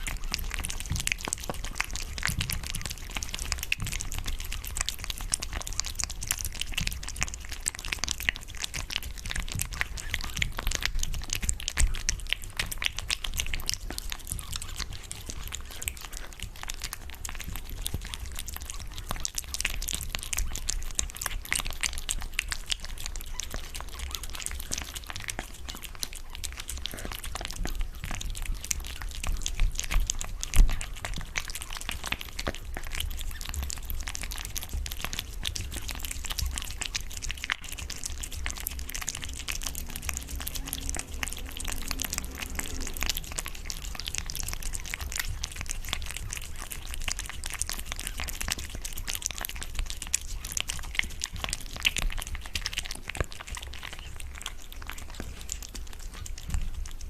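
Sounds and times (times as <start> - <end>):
cat chewing wetly: 0.0 - 57.0.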